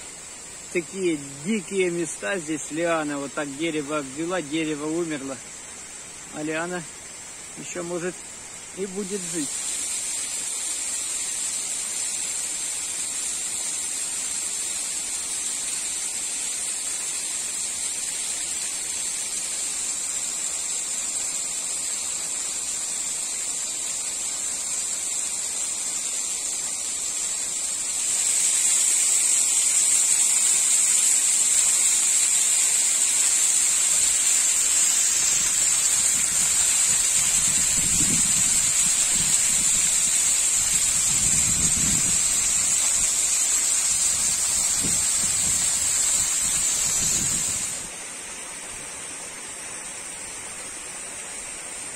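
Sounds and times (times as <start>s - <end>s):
waterfall splashing onto stones: 0.0s - 51.9s.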